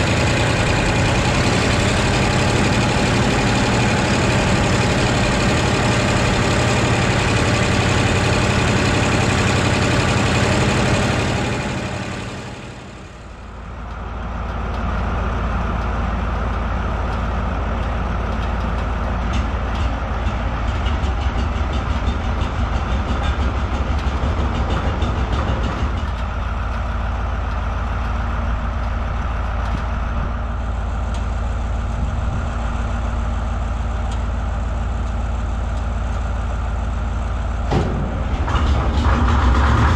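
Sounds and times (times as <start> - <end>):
diesel engine idling: 0.0 - 39.9
tractor diesel engine driving: 0.0 - 39.9.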